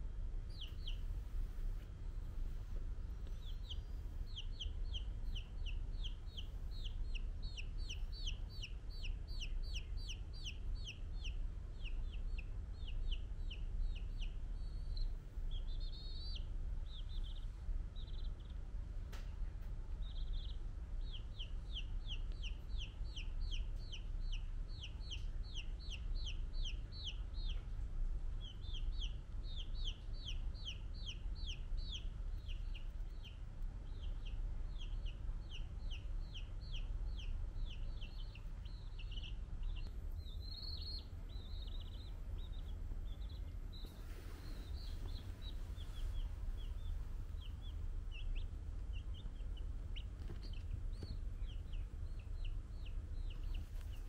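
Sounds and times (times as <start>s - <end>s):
chick peeping: 0.4s - 54.0s.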